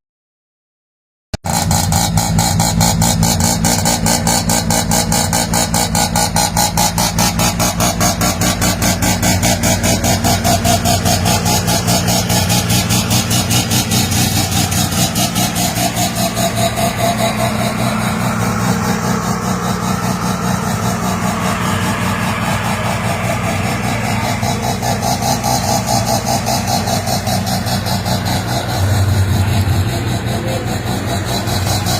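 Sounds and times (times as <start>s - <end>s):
rotary engine idling: 1.5s - 31.9s.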